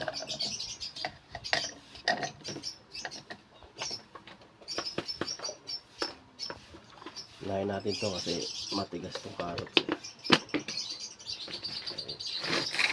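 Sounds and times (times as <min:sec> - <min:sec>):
lovebirds squeaky chirping: 0:00.0 - 0:12.9.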